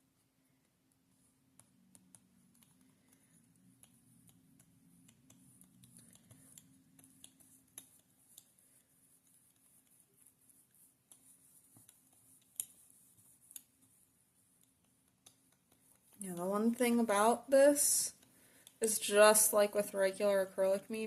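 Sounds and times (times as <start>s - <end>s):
small clicks and light taps: 0.5s - 17.1s, 18.1s - 20.8s.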